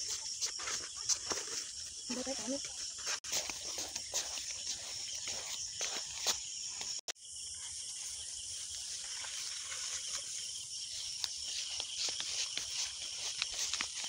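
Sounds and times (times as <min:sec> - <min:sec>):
footsteps in grass: 0:00.0 - 0:07.0, 0:07.7 - 0:14.0
insects chirring: 0:00.0 - 0:14.0.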